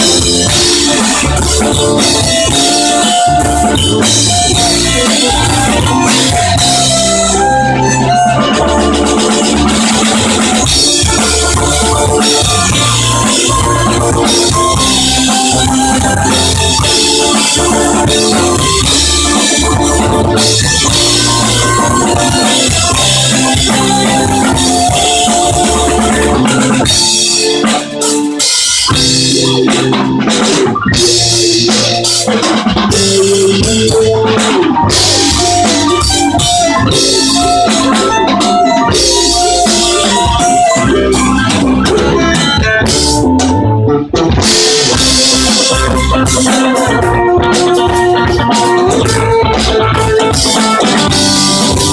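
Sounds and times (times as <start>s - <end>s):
bass guitar: 0.0s - 51.9s
drum kit: 0.0s - 51.9s
electric guitar: 0.0s - 51.9s.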